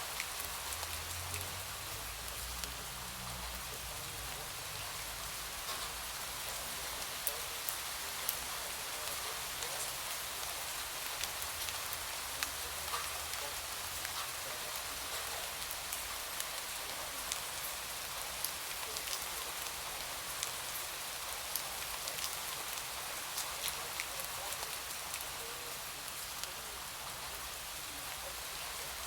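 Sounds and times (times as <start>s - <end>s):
rain hissing: 0.0s - 29.0s
raindrops ticking: 0.0s - 29.0s.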